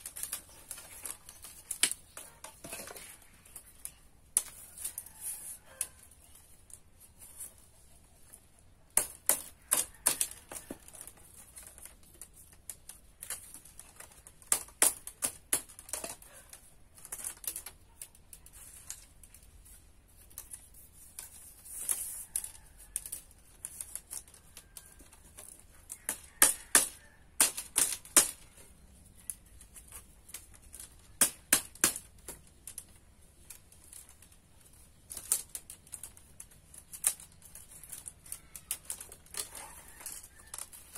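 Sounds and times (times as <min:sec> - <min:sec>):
bamboo strips clacking: 0:00.0 - 0:40.9.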